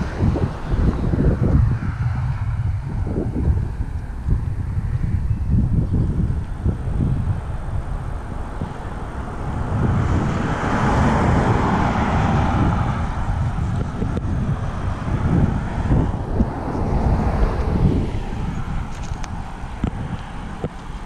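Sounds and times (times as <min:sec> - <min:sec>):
vehicle passing: 0:00.0 - 0:21.0
wind buffeting microphone: 0:00.0 - 0:21.0.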